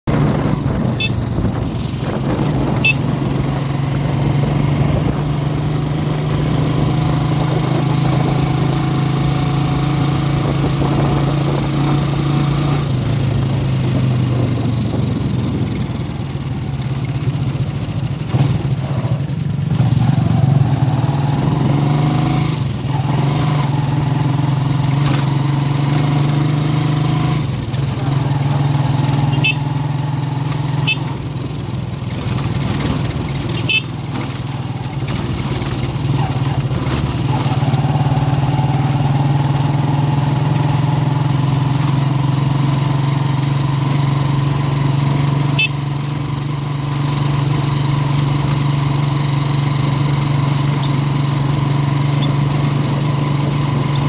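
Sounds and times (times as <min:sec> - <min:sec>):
small motorcycle engine running: 0:00.1 - 0:54.0.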